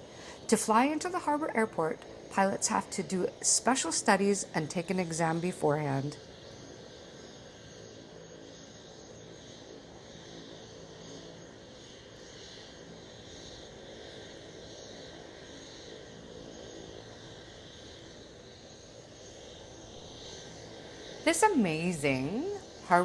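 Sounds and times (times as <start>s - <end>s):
distant propeller plane engine: 0.0s - 23.0s.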